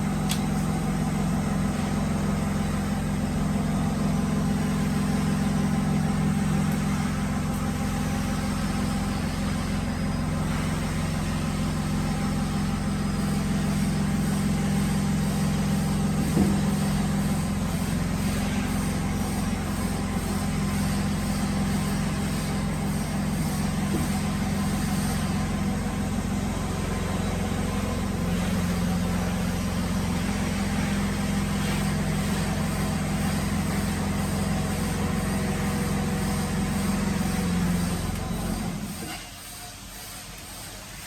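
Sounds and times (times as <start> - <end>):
electric motor humming: 0.0 - 38.9.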